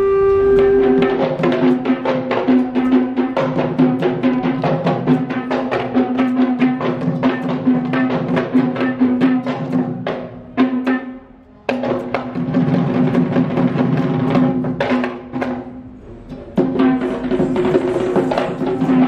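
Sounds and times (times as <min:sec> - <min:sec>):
hand-drum strokes: 0:00.0 - 0:19.0.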